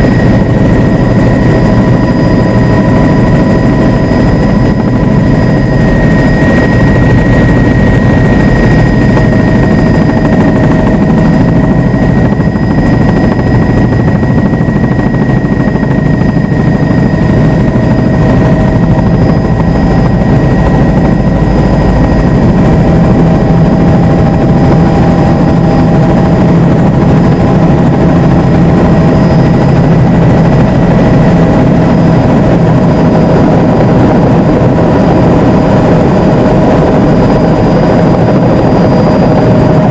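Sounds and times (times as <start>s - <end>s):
helicopter engine and rotor drone: 0.0s - 39.9s
steady whining tones: 0.0s - 39.9s.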